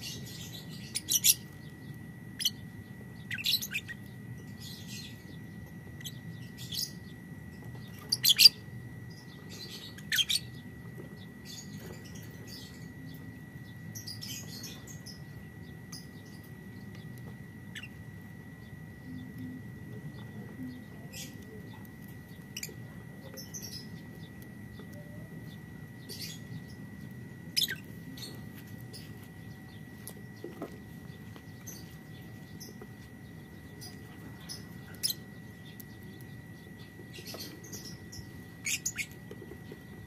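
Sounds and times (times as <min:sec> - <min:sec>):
lovebirds chirping: 0:00.0 - 0:40.0.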